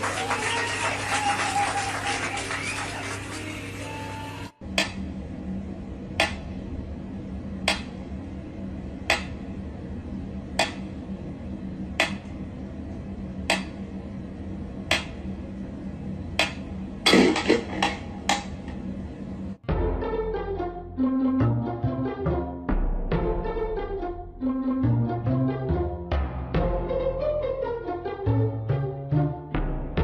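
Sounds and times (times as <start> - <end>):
steady low hum: 2.8 - 30.0.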